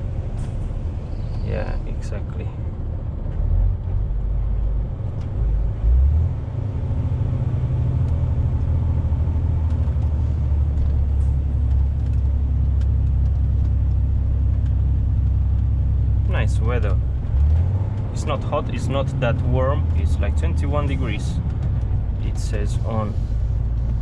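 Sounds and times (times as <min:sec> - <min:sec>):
lorry engine and road rumble: 0:00.0 - 0:24.0.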